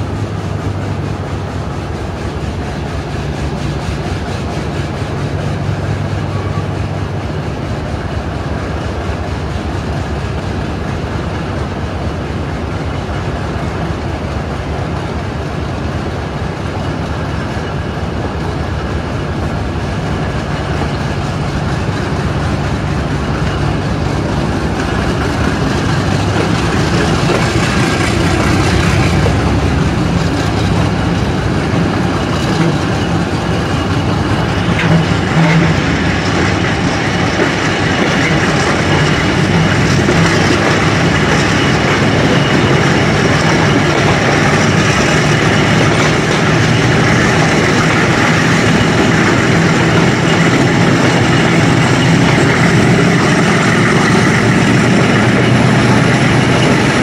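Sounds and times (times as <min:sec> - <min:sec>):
diesel locomotive engine running: 0:00.0 - 0:57.0
train wheels running: 0:00.0 - 0:57.0.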